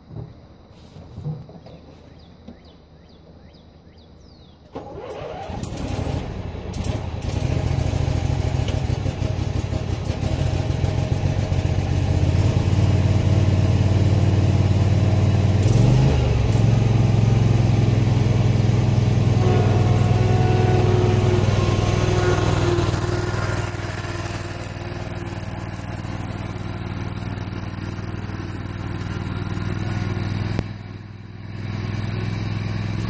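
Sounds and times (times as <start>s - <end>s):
mower engine cranking and running: 4.7s - 33.0s.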